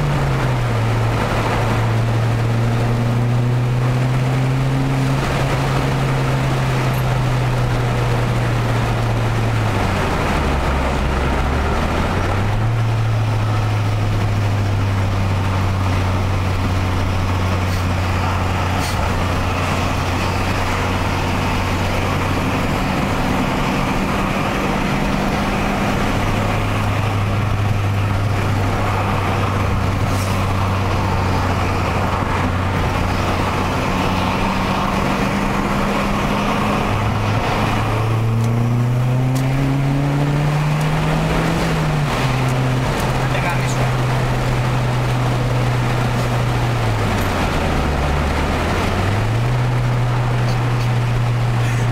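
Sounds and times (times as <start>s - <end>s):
car engine hum: 0.0s - 51.9s.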